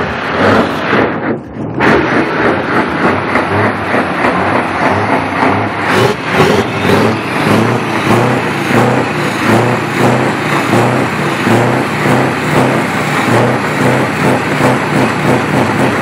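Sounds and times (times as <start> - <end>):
truck diesel engine pulsing: 0.0 - 16.0.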